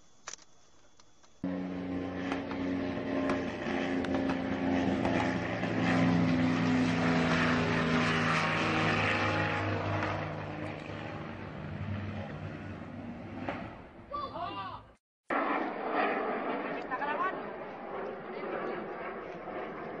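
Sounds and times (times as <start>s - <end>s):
aircraft engine drone: 0.0s - 14.3s, 15.3s - 20.0s.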